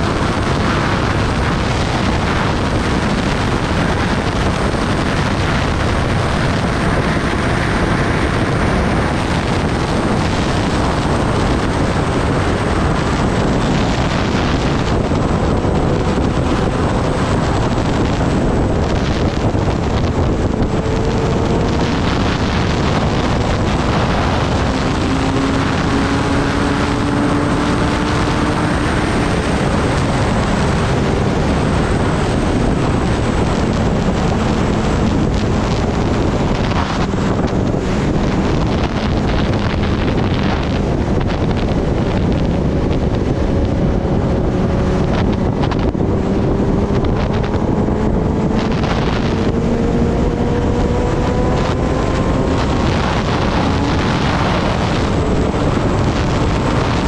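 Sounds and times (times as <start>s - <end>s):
motorcycle engine at speed: 0.0s - 57.0s
wind rushing over microphone: 0.0s - 57.0s.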